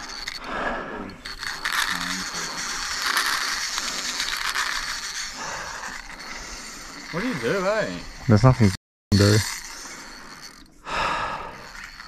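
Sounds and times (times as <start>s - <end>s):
fishing reel ratcheting: 0.0s - 12.0s.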